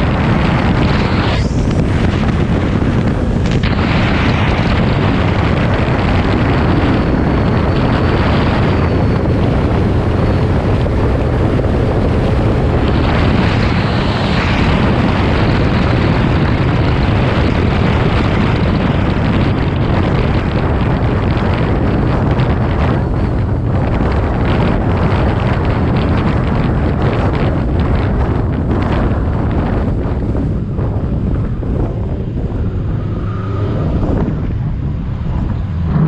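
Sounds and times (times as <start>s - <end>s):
car engine running: 0.0s - 36.0s
wind buffeting microphone: 0.0s - 36.0s.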